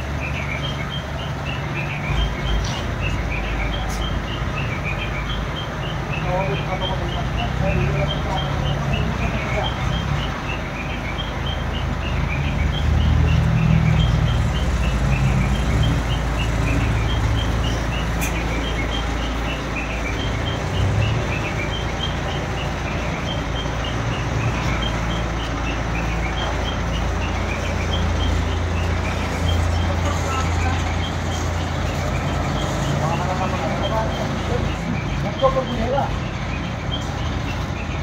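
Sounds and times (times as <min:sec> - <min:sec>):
crane diesel engine running: 0:00.0 - 0:38.0
electronic warning alarm beeps: 0:00.0 - 0:38.0.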